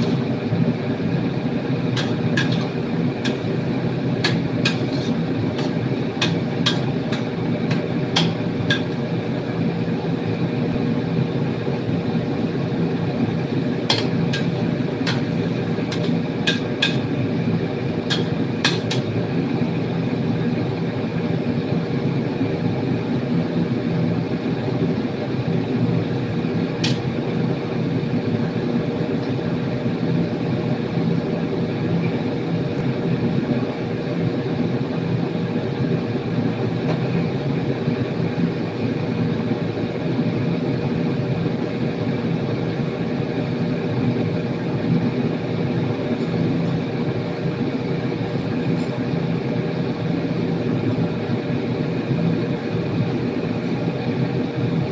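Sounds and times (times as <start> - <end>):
gas burner and range hood roar: 0.0 - 54.9.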